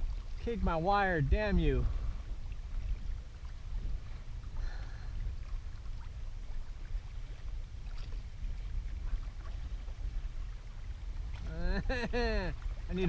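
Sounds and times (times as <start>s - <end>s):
water lapping around kayak: 0.0s - 13.0s
wind buffeting microphone: 0.0s - 13.0s.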